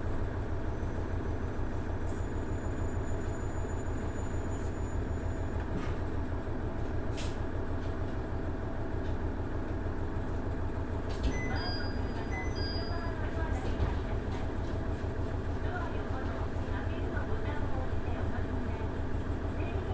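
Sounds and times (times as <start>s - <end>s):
railcar engine and wheels rumbling: 0.0s - 19.9s.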